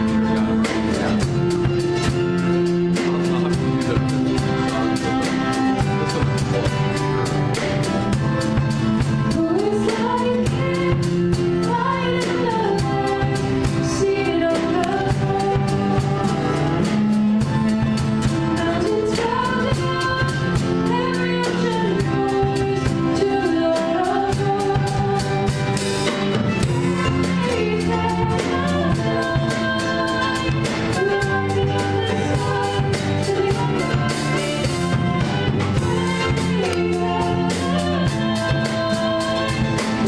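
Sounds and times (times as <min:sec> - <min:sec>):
live band playing: 0:00.0 - 0:40.0
woman singing: 0:04.0 - 0:06.8, 0:07.5 - 0:40.0.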